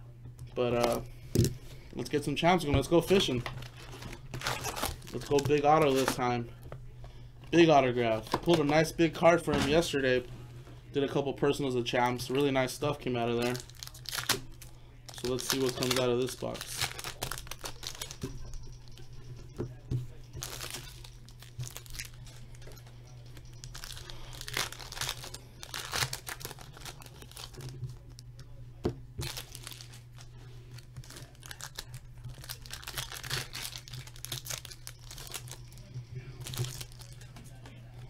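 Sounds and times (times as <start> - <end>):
steady low hum: 0.0 - 38.0
foil wrappers crinkling: 0.6 - 10.3, 11.5 - 28.3, 29.2 - 37.4.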